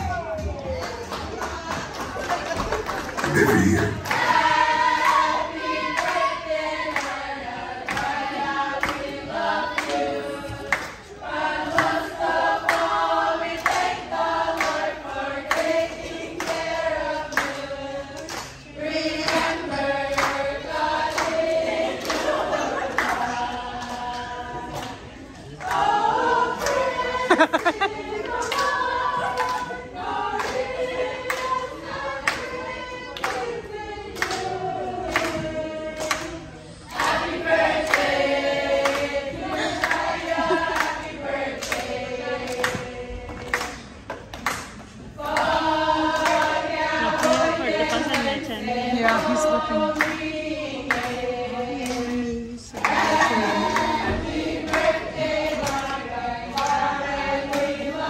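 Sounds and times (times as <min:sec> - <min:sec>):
group singing in harmony: 0:01.4 - 0:58.0.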